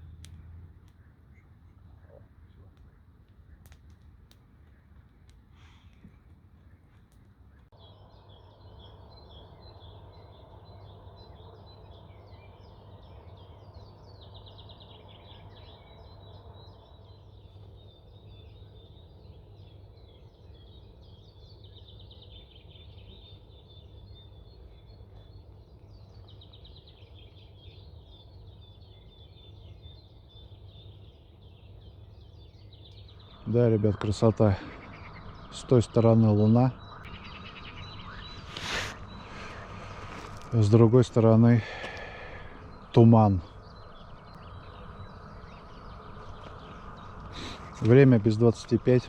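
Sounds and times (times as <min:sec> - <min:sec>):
faint low background noise: 0:00.0 - 0:49.0
small birds singing trills: 0:00.0 - 0:49.0.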